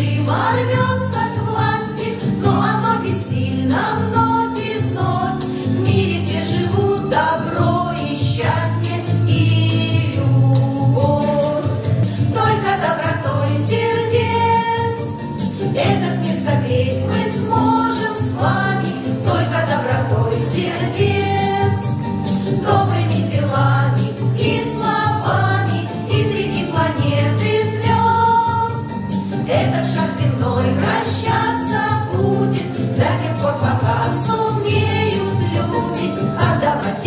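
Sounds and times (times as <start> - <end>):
choir singing: 0.0 - 9.1, 12.3 - 15.1, 15.7 - 22.0, 22.6 - 28.9, 29.5 - 37.0
instrumental accompaniment: 0.1 - 37.0.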